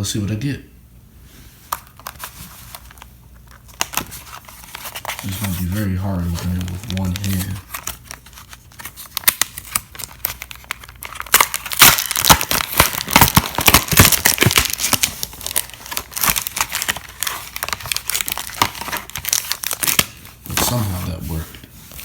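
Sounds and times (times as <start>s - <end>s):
foil wrapper crinkling and tearing: 1.8s - 20.9s.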